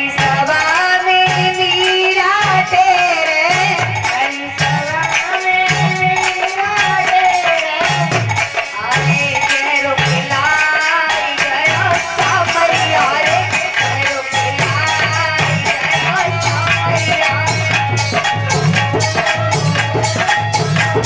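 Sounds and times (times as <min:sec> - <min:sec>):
jingling tambourine: 0:00.0 - 0:21.0
steady drum beat: 0:00.0 - 0:21.0
woman singing: 0:00.0 - 0:21.0.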